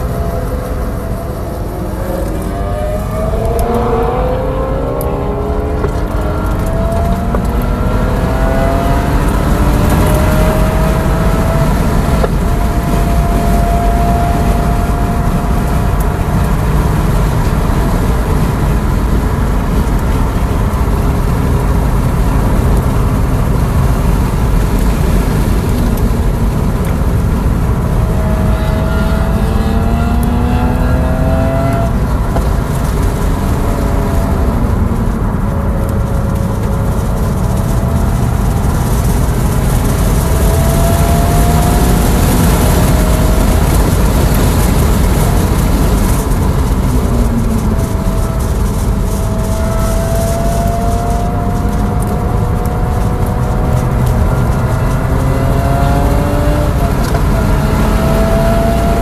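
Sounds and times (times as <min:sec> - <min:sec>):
wind and tyre noise: 0:00.0 - 0:59.0.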